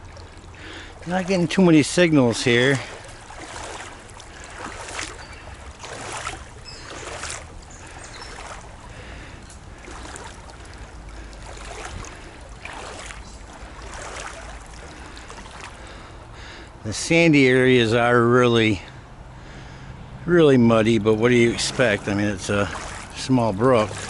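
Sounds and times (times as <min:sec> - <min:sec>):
footsteps wading through water: 0:00.0 - 0:17.7, 0:18.8 - 0:24.0
low rumble of water: 0:00.0 - 0:24.0.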